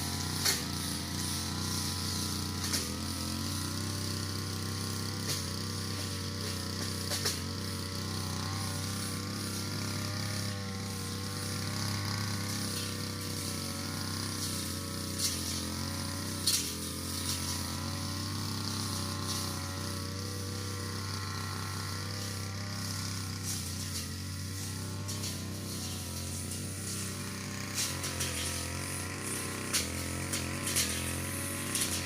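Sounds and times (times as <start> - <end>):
brush cutter engine cutting grass: 0.0 - 32.0.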